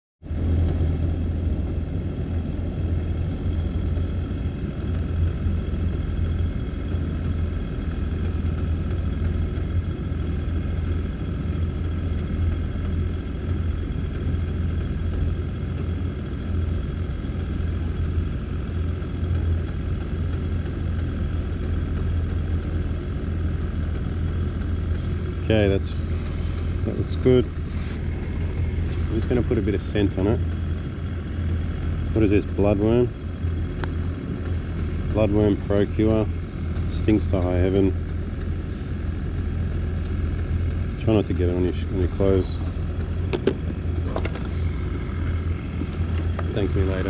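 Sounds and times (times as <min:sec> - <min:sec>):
motor low rumble: 0:00.2 - 0:47.0.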